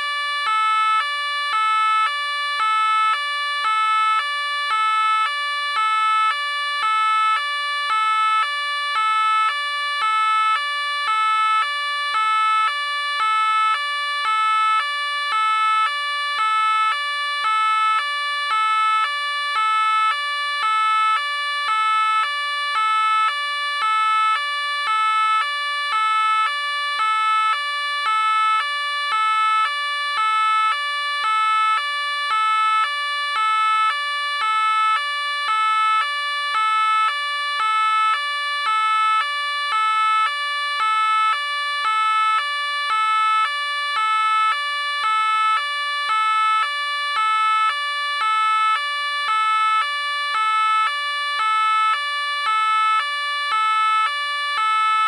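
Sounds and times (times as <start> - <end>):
two-tone police siren: 0.0 - 55.0.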